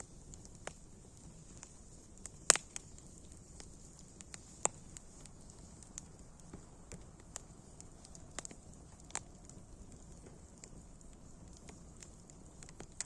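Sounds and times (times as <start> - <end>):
campfire crackling: 0.0 - 13.0
faint steady hiss: 0.0 - 13.0.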